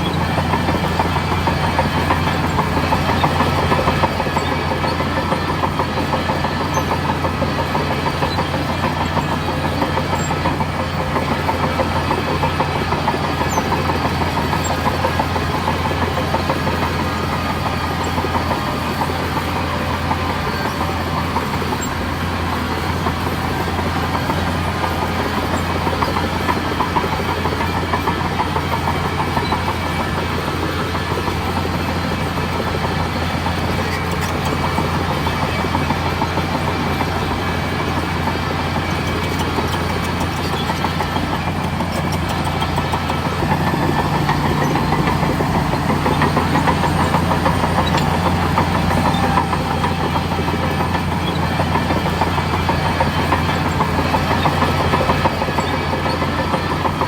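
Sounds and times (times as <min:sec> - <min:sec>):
bulldozer diesel engine running: 0:00.0 - 0:57.0
fast continuous rattle: 0:00.0 - 0:57.0.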